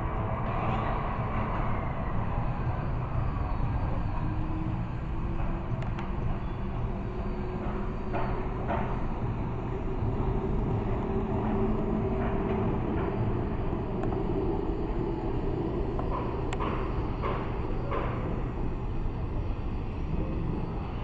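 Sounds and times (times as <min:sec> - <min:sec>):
tram rumbling on tracks: 0:00.0 - 0:21.0.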